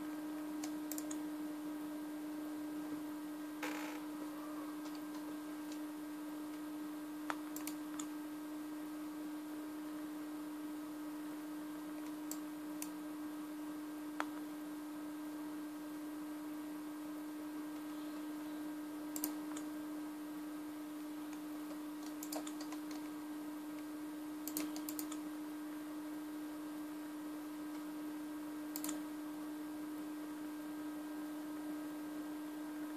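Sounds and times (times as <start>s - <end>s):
steady hum: 0.0s - 32.9s.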